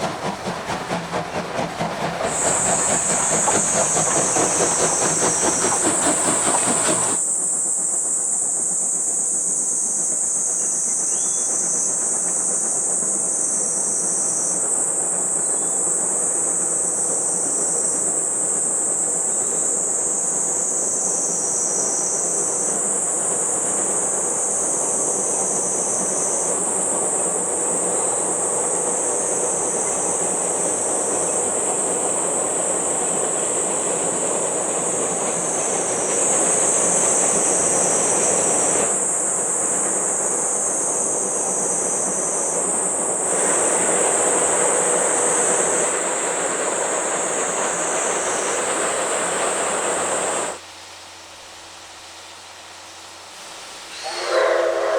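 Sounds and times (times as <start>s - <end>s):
train wheels clattering on rails: 0.0s - 50.6s
high insect chorus: 2.3s - 54.9s.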